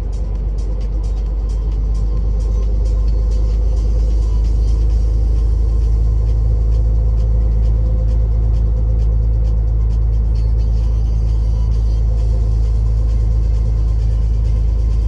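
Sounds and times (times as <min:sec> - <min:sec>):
light regular ticking: 0:00.0 - 0:15.0
truck diesel engine cruising: 0:00.0 - 0:15.0
tyre and road noise: 0:00.0 - 0:15.0.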